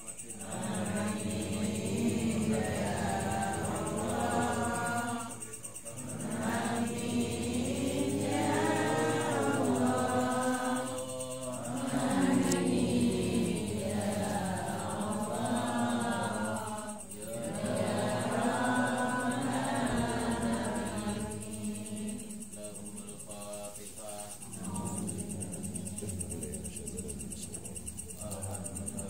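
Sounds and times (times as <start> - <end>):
congregation chanting prayers: 0.0 - 29.0.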